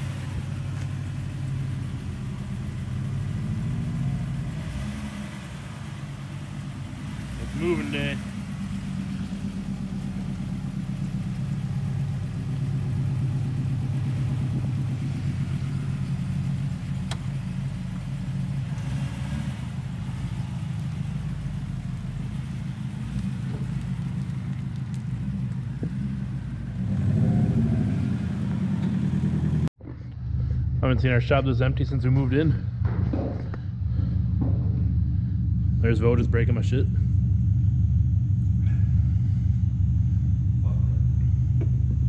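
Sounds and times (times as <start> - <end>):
car engine idling: 0.0 - 42.0
louder engine sound: 0.0 - 42.0.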